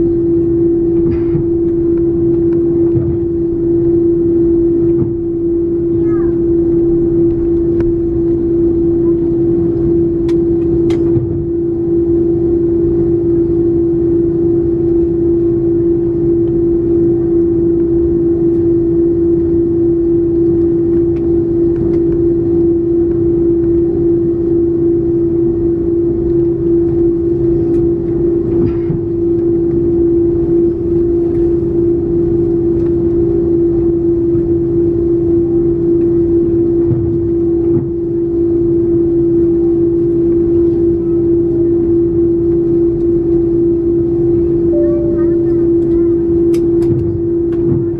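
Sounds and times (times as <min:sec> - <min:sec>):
jet engines droning hum: 0:00.0 - 0:47.9.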